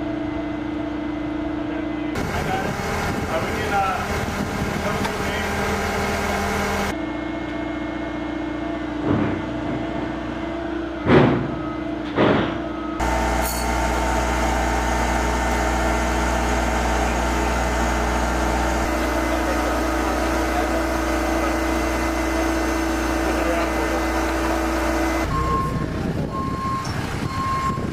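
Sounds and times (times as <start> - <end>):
machinery humming: 0.0 - 27.9.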